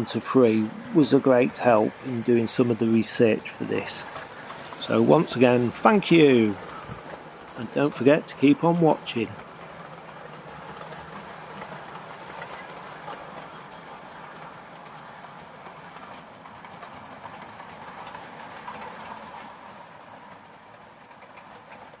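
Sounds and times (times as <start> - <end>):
model train running rumble: 0.0 - 22.0
model train wheels clicking: 0.1 - 19.6.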